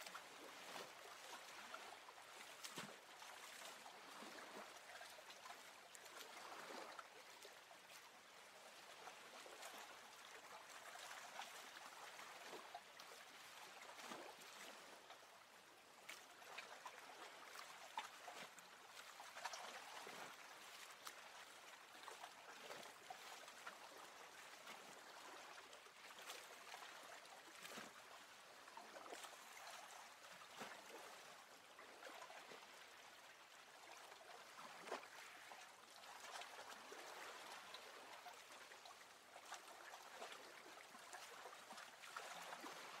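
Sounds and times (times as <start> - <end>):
water drips and splashes: 0.0 - 43.0
water lapping and trickling: 0.0 - 43.0.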